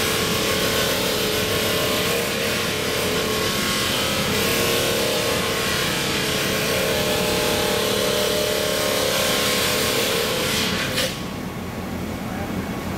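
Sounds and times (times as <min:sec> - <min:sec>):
abrasive wheel grinding metal: 0:00.0 - 0:11.0.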